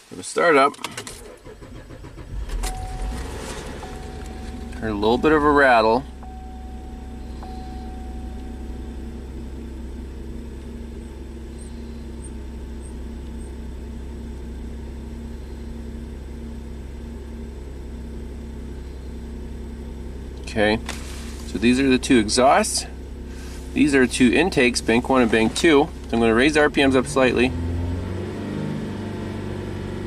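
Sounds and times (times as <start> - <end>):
car engine fast idle: 0.8 - 30.0.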